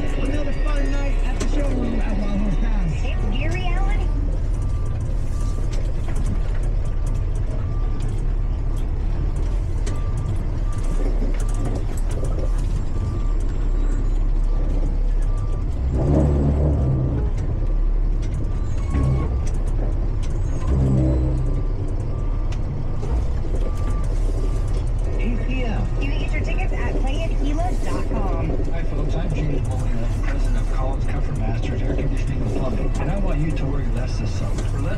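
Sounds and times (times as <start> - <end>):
backup alarm beeping: 0.0 - 16.0, 18.4 - 31.0
heavy truck engine running: 0.0 - 34.9.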